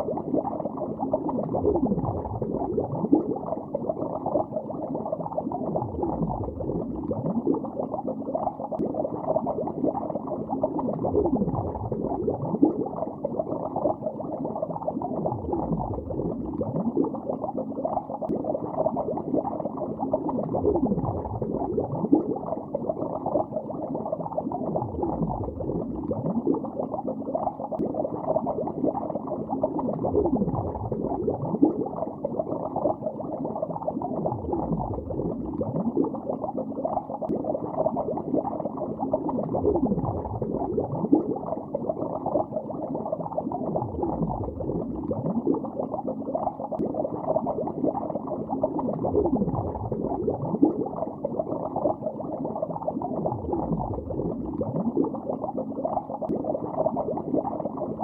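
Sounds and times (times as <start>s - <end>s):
muffled underwater bubbling: 0.0s - 58.0s.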